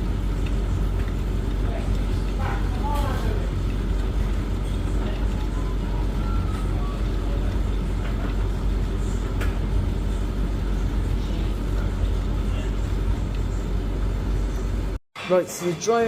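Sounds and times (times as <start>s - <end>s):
laundry appliance humming: 0.0s - 15.0s.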